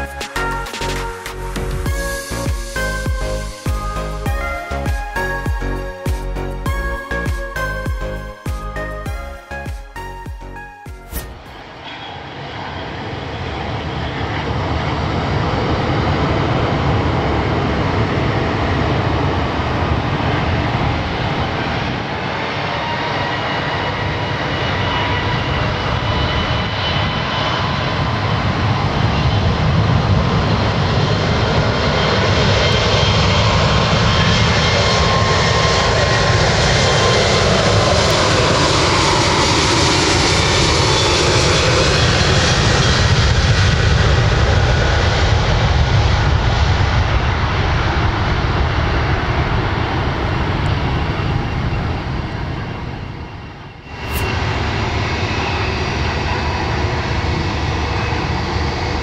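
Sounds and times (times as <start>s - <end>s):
jet engines at takeoff power: 0.0s - 59.0s.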